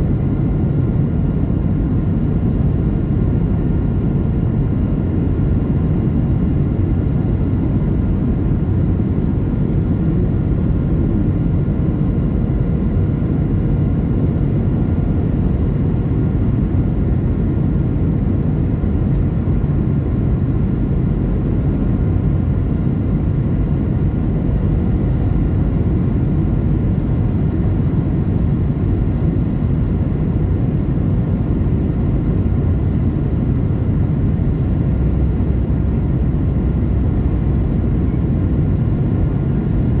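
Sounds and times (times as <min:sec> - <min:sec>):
aircraft cabin rumble: 0:00.0 - 0:40.0.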